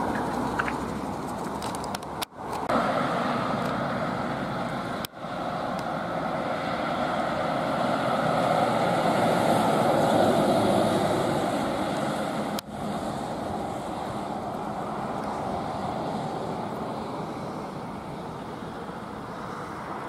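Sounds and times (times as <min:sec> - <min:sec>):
fire engine driving past: 0:02.6 - 0:20.0.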